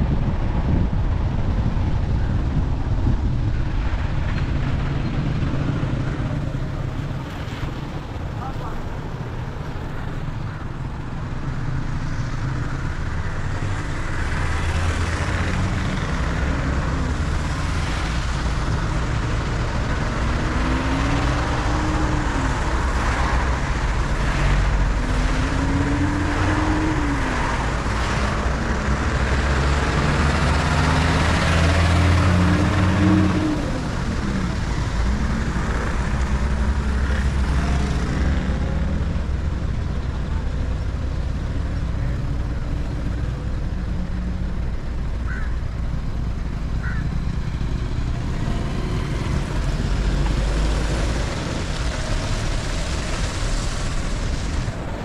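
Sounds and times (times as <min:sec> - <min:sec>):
road and tyre noise: 0:00.0 - 0:55.0
vehicle engine hum: 0:00.0 - 0:55.0.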